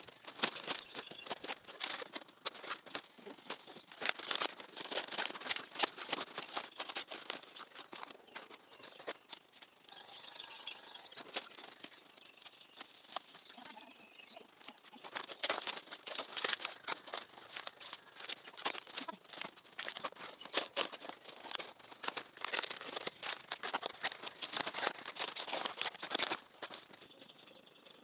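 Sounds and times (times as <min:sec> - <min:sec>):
leaves crackling and tearing: 0:00.0 - 0:12.0, 0:14.6 - 0:27.0.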